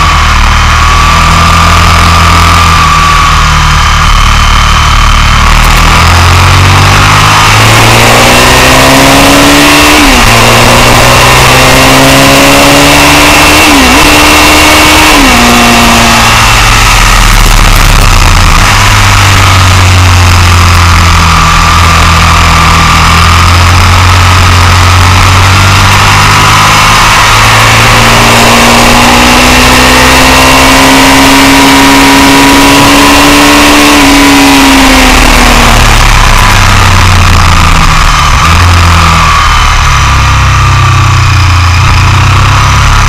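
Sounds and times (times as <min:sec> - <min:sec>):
motorcycle engine: 0:00.0 - 0:43.0.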